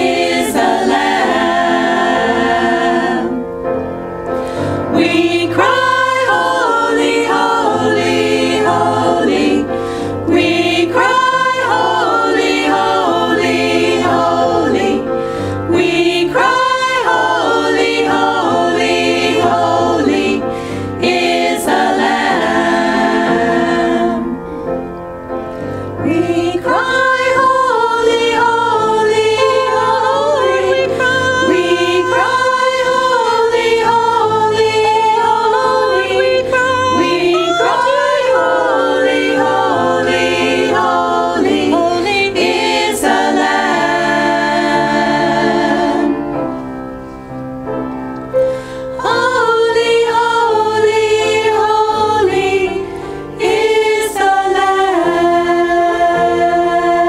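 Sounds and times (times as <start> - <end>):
women's choir singing in harmony: 0.0 - 57.0.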